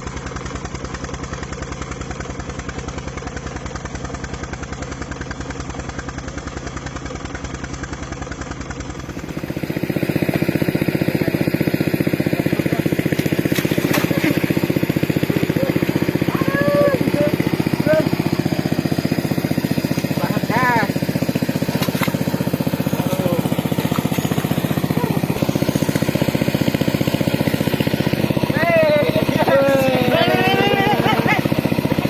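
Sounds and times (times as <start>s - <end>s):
water pump engine chugging: 0.0s - 32.0s.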